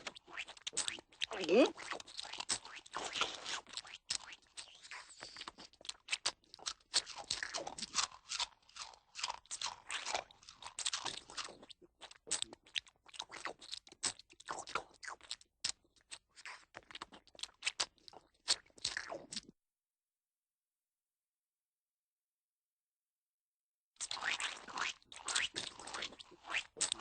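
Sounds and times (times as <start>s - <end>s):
cartoon chewing crunches: 0.0s - 19.5s, 24.0s - 27.0s.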